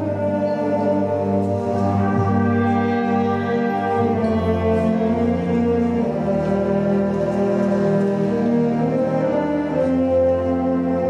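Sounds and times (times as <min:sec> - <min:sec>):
brass band playing chords: 0:00.0 - 0:11.0.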